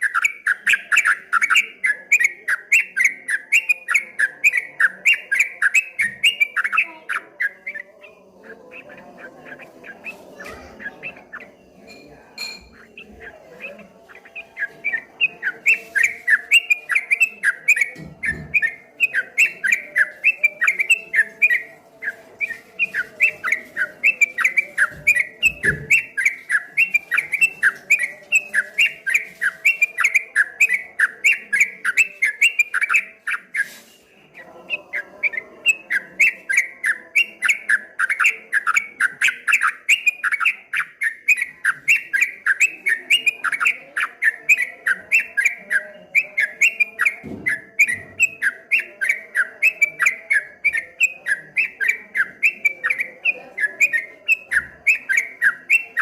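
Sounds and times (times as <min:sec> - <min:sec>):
bird singing rolling chatter: 0:00.0 - 0:56.0.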